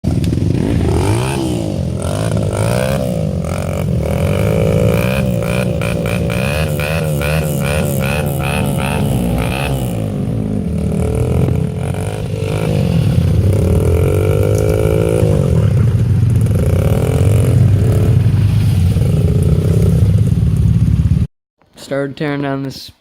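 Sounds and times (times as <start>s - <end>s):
small engine running and revving: 0.1s - 21.0s.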